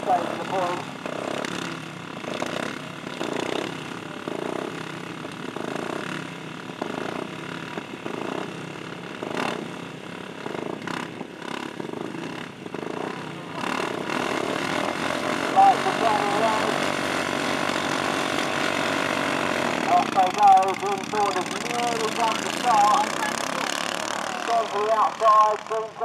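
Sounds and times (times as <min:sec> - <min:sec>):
lawnmower engines revving: 0:00.0 - 0:26.0.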